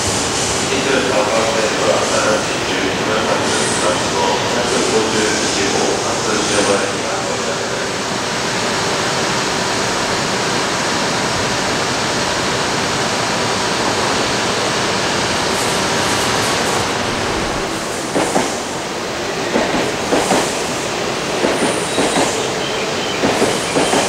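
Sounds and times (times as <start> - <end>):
train rushing noise: 0.0 - 24.0.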